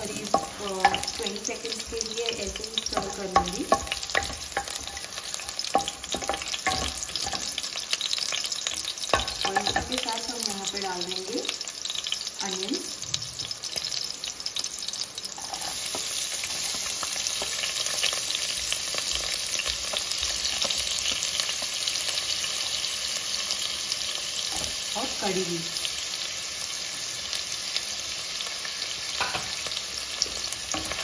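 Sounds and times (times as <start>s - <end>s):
onions sizzling in hot oil: 0.0s - 31.0s.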